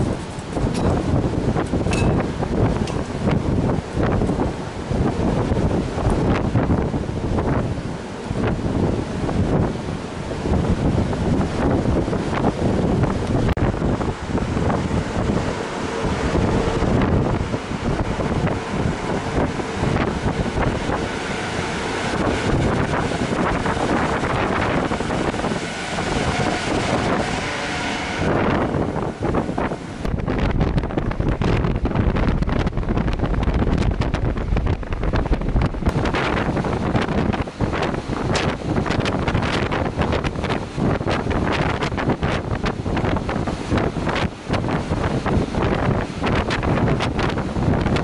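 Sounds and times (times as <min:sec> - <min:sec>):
low gusty rumbles and knocks: 0:00.0 - 0:48.0
wind buffeting microphone: 0:00.0 - 0:48.0.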